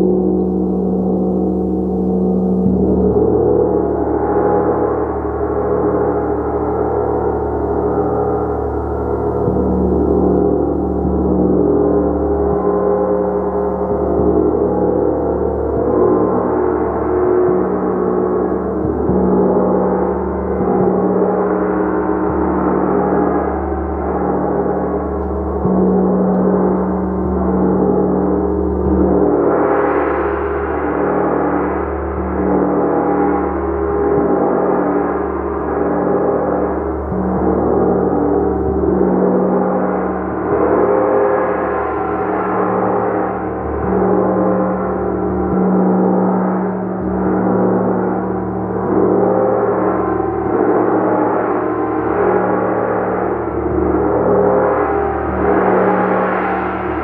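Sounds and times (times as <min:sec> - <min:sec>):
gong played continuously: 0:00.0 - 0:57.0.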